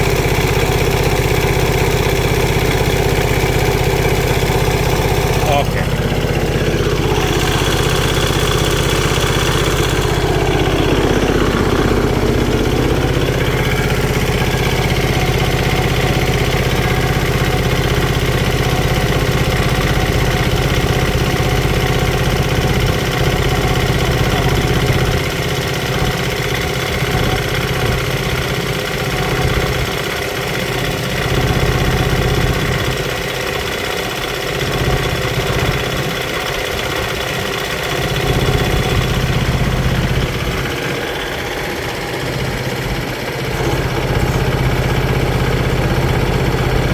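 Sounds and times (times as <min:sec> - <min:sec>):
diesel tractor engine idling: 0:00.0 - 0:46.9.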